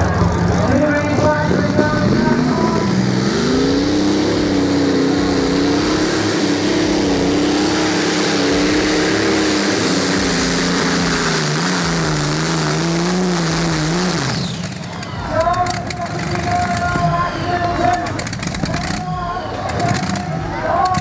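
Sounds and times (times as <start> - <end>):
engine running under load: 0.0 - 21.0.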